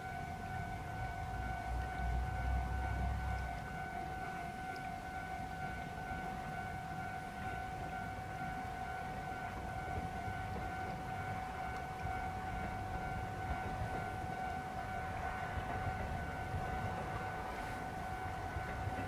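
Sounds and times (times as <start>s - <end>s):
diesel railcar rumbling: 0.0s - 19.0s
railway crossing alarm ringing: 0.0s - 19.0s.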